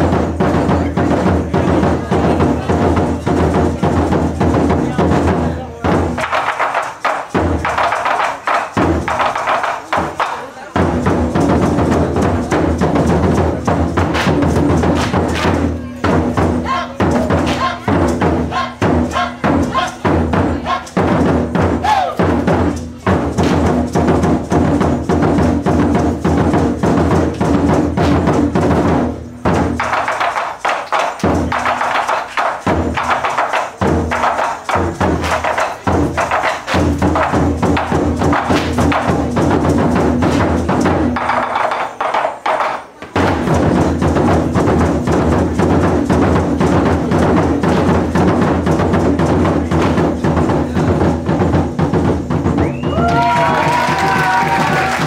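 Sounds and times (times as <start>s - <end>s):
taiko drum ensemble playing: 0.0s - 55.0s.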